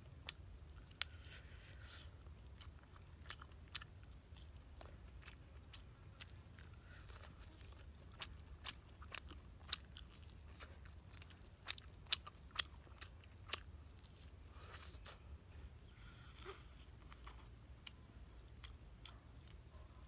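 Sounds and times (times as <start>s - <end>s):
person chewing: 0.0s - 15.4s, 16.3s - 19.7s.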